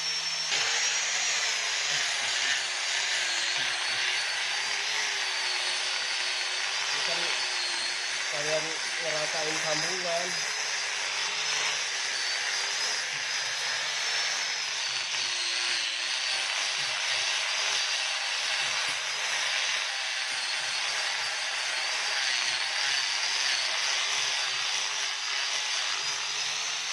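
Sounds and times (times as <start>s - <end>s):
electric sander sanding wood: 0.0s - 26.9s.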